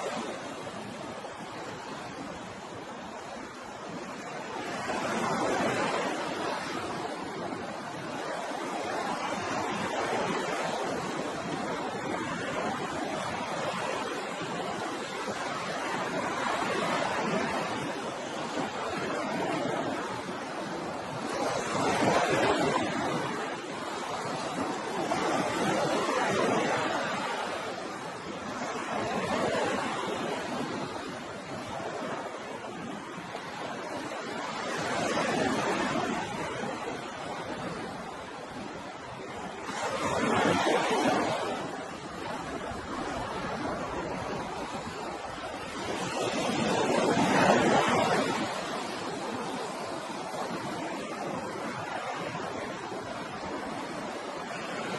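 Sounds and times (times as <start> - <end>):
ocean surf washing on shore: 0.0 - 54.9.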